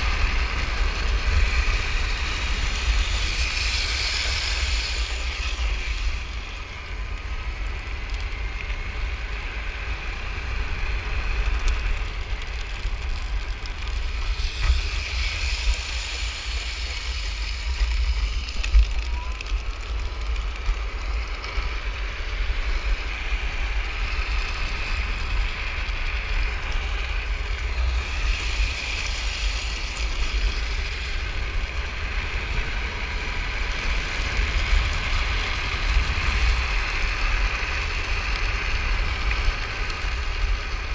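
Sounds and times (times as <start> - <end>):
wheels rattling on asphalt: 0.0 - 40.9
wind buffeting microphone: 0.0 - 40.9.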